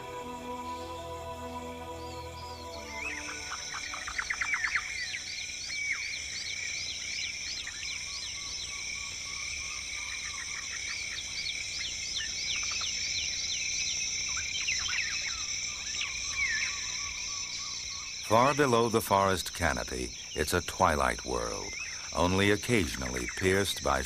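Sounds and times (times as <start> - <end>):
bird calls: 0.0 - 24.0
shrill insect chorus: 0.0 - 24.0.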